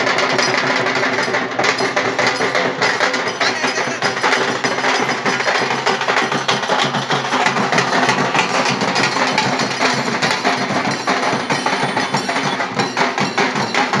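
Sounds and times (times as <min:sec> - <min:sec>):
drum band playing fast rhythm: 0:00.0 - 0:14.0
large double-headed drum: 0:00.0 - 0:14.0.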